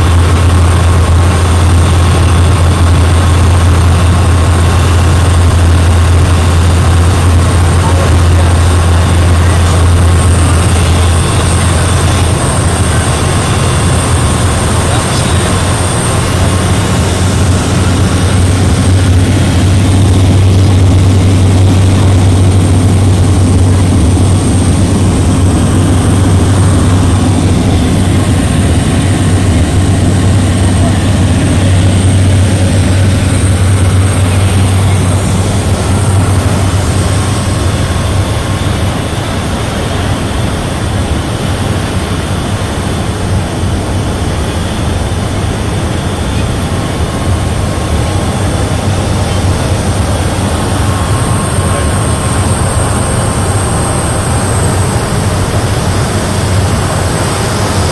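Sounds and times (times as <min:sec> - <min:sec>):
turboprop engine drone in cabin: 0:00.0 - 0:57.9.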